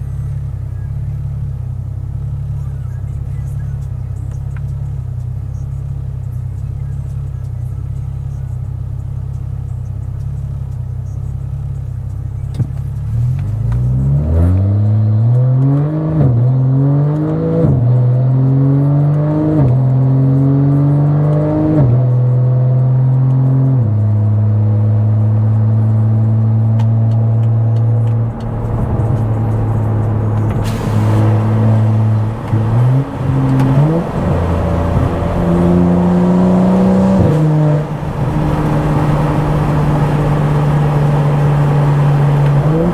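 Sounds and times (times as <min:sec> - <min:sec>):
car engine through loud exhaust: 0:00.0 - 0:42.9.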